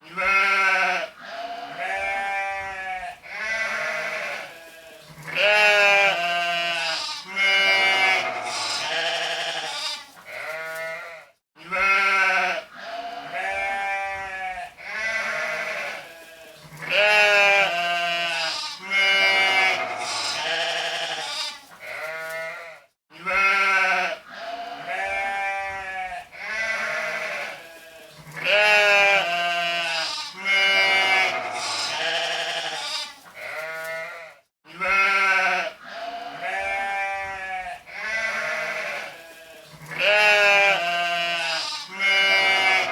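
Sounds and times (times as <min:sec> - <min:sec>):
sheep bleating: 0:00.0 - 0:42.9.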